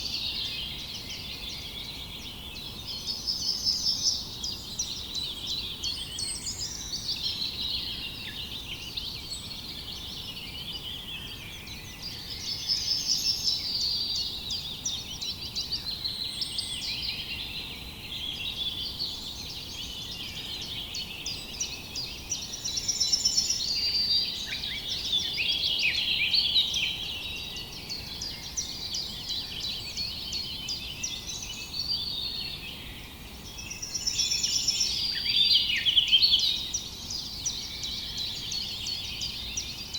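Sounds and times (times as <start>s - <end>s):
faint background hiss: 0.0s - 39.9s
small birds chirping and singing: 0.0s - 39.9s.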